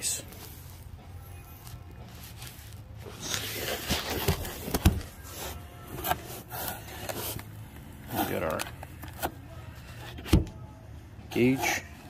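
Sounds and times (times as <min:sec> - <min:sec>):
hands rubbing and rustling parts: 0:00.0 - 0:10.3.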